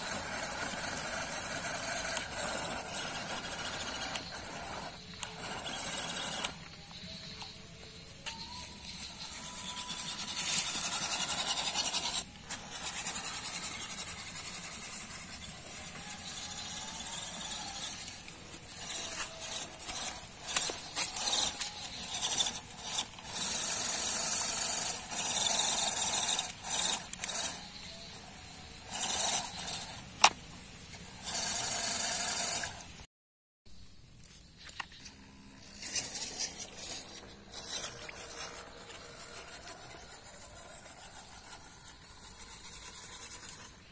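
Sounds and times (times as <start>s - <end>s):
small electric motor whining: 0.0s - 33.1s, 34.7s - 43.9s.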